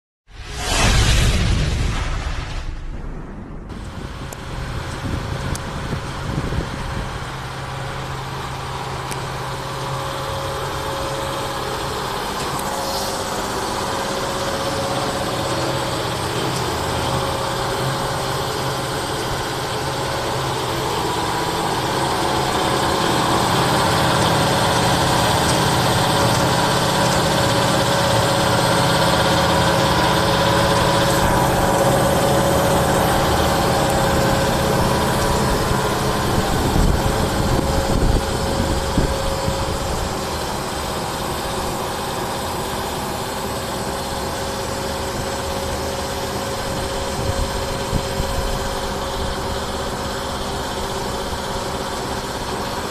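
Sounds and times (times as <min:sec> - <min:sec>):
machine motors and pumps humming: 0:03.8 - 0:52.9.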